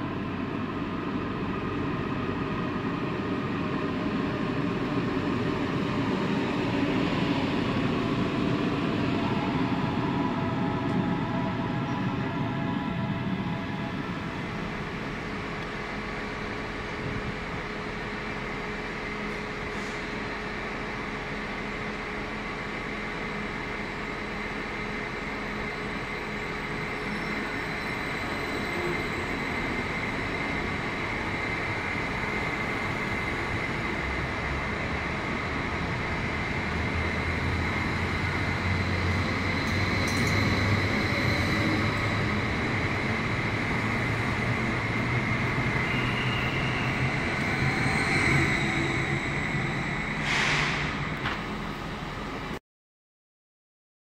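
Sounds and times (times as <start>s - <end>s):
train rolling noise: 0.0s - 52.6s.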